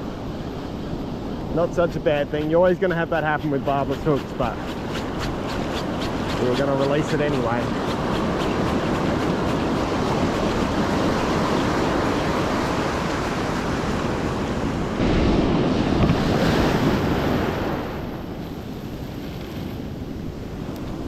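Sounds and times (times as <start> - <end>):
wind buffeting microphone: 0.0 - 21.0
surf breaking on beach: 1.4 - 21.0.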